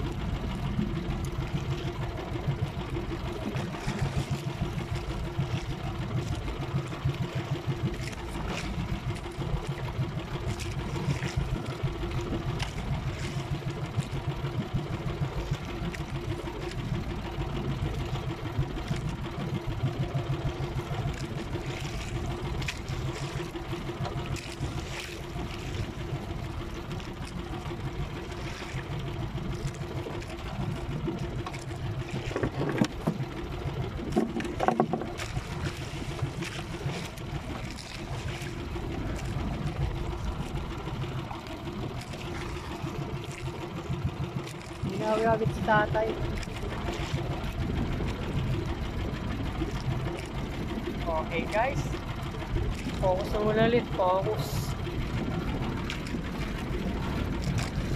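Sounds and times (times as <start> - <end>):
boat engine running at low speed: 0.0 - 57.9
wind and sea noise: 0.0 - 57.9.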